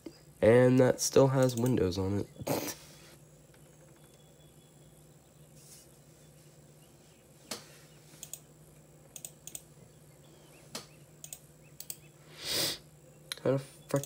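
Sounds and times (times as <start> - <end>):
computer humming: 0.0 - 14.0.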